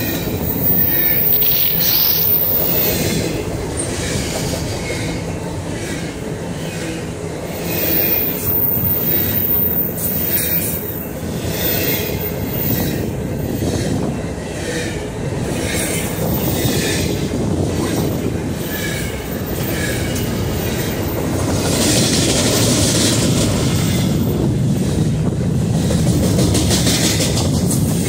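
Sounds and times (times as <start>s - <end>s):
freight train wheels rumbling: 0.0s - 28.0s
wheels clacking over rail joints: 0.0s - 28.0s.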